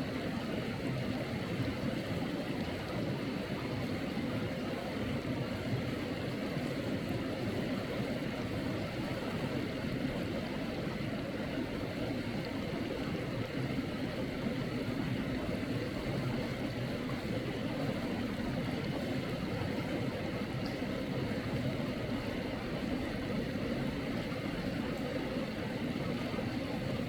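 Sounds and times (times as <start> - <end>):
stream water running: 0.0 - 27.0.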